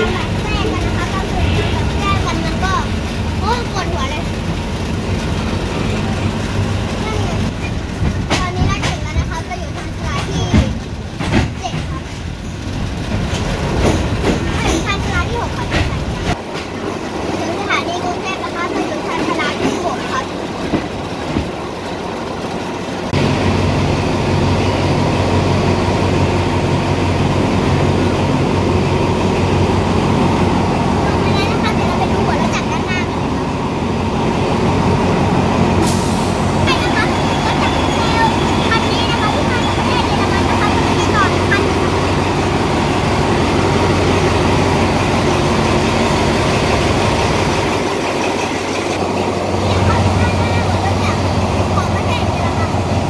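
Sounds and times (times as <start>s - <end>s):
diesel locomotive engine idling: 0.0s - 53.0s.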